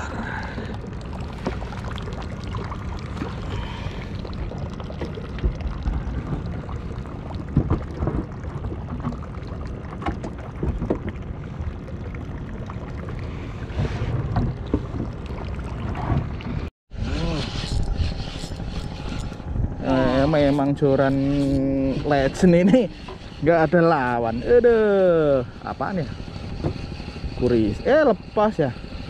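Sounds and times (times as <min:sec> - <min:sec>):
choppy water against hull: 0:00.0 - 0:29.0
steady wind: 0:00.0 - 0:29.0.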